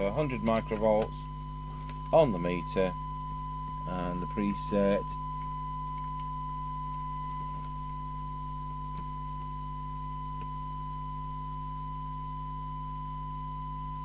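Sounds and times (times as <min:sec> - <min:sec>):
low mains hum: 0:00.0 - 0:14.0
steady test tone from loudspeaker: 0:00.0 - 0:14.0.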